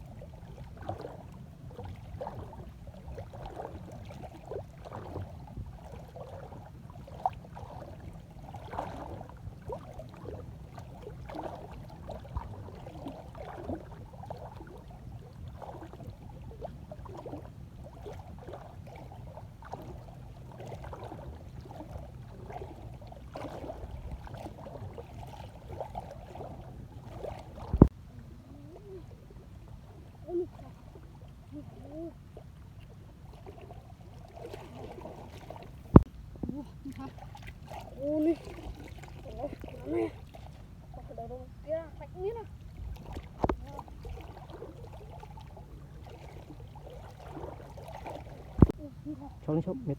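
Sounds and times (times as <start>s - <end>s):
water sloshing and splashing: 0.0s - 49.9s.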